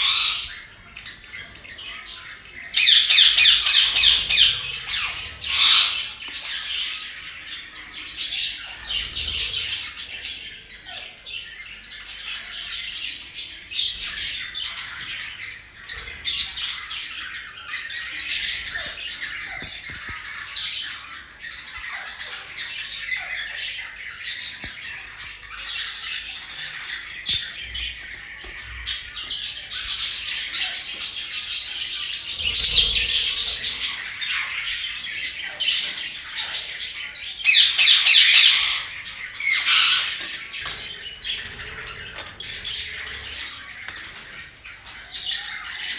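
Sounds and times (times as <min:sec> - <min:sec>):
parrots chattering and squawking: 0:00.0 - 0:45.9.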